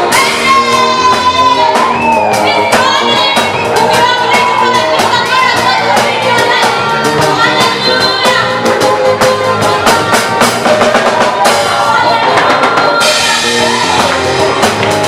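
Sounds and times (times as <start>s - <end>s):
band playing gospel music: 0.0s - 15.0s
drum kit beat: 0.0s - 15.0s
group of singers: 0.0s - 15.0s.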